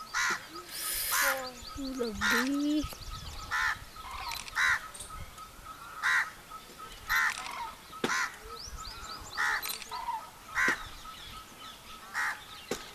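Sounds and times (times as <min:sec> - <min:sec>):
harsh bird calls: 0:00.0 - 0:12.9
small birds chirping: 0:00.0 - 0:12.9.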